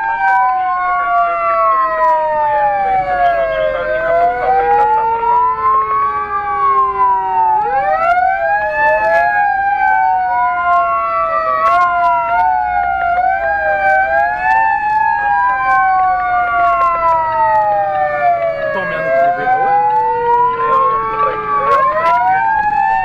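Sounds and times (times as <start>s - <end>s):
fire engine siren wailing: 0.0s - 23.0s
truck rumble: 0.8s - 23.0s.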